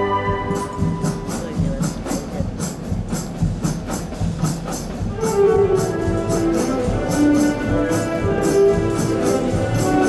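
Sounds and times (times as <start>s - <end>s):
drums and high percussion: 0.0s - 10.0s.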